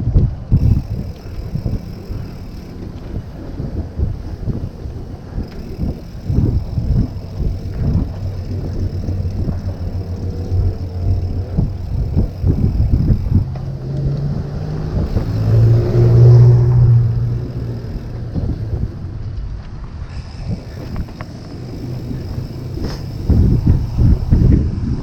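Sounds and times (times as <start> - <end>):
wind rumble on microphone: 0.0 - 25.0
vehicle engine passing: 0.5 - 24.6.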